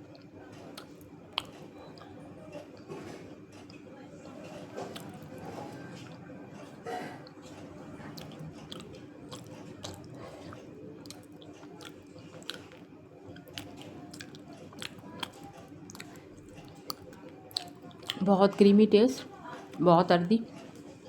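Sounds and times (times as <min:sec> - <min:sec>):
crunchy chewing: 0:00.0 - 0:19.8.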